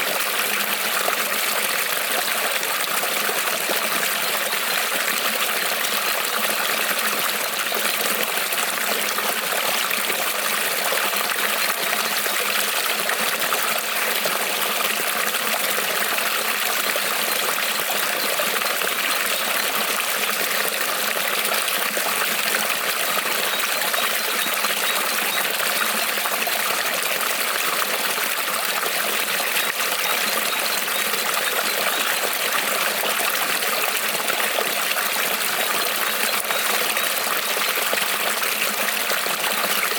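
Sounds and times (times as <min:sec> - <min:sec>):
creek trickling over stones: 0:00.0 - 0:39.9.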